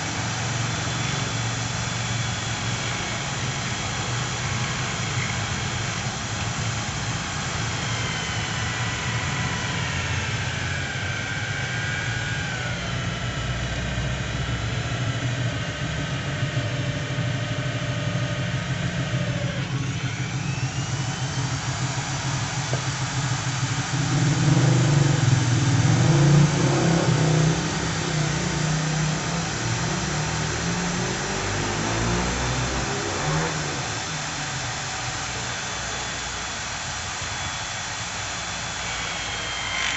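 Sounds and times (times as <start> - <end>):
electric drill boring into metal: 0.0 - 39.9.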